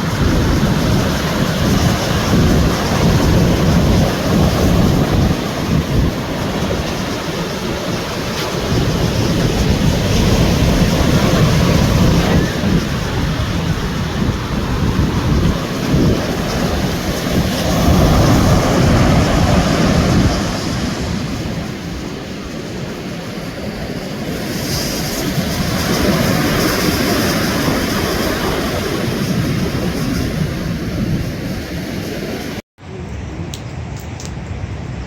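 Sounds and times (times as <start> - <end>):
sea waves breaking on a beach: 0.0 - 32.6
wind buffeting the microphone: 0.0 - 35.0.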